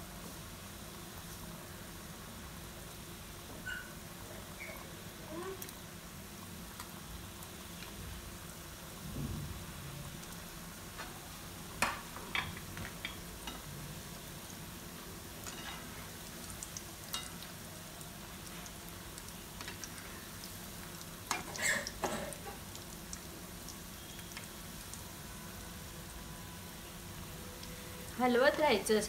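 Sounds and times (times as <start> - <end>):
dough sizzling in hot oil: 0.0 - 29.0.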